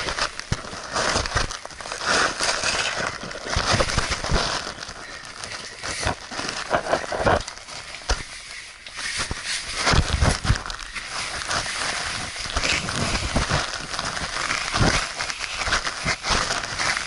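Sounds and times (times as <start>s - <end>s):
clothing scraping against rock: 0.0s - 17.0s.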